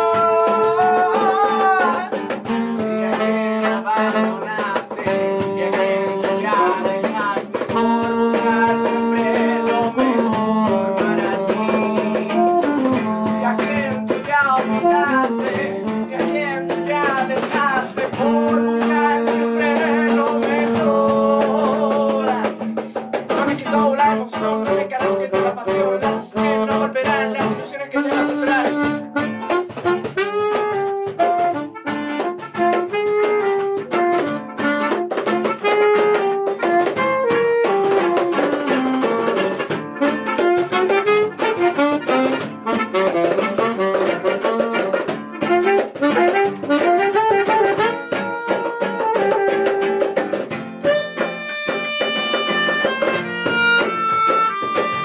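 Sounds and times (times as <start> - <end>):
melodica held notes: 0.0 - 21.8, 24.6 - 55.0
saxophone melody: 0.0 - 55.0
strummed acoustic guitar: 0.0 - 55.0.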